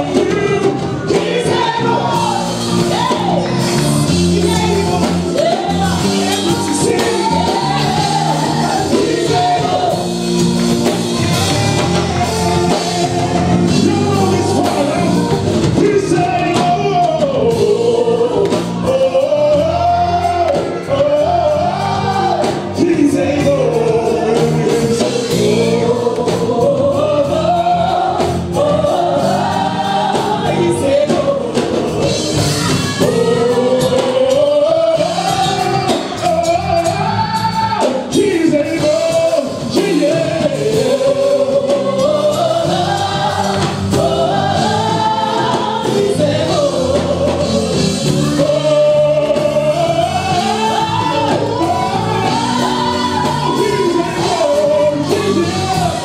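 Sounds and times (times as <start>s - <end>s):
gospel choir singing: 0.0s - 56.0s
lead singers on microphones: 0.0s - 56.0s
musical accompaniment: 0.0s - 56.0s.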